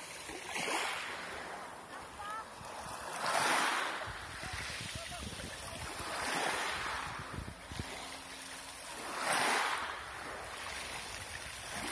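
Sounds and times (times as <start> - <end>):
waves breaking on pebble beach: 0.0 - 11.9.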